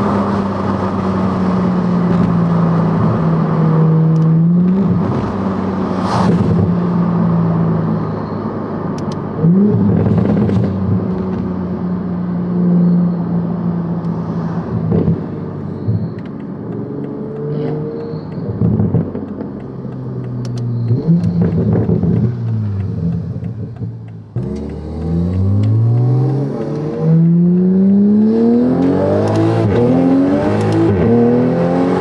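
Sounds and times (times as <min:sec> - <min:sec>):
car engine running: 0:00.0 - 0:28.3.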